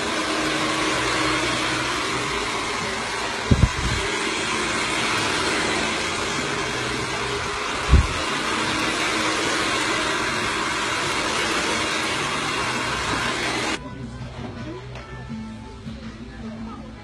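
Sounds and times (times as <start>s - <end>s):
hair dryer running: 0.0s - 13.8s.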